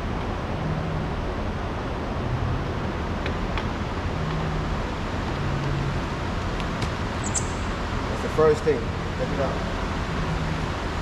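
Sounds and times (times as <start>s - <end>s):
rushing noise with low rumble: 0.0s - 11.0s.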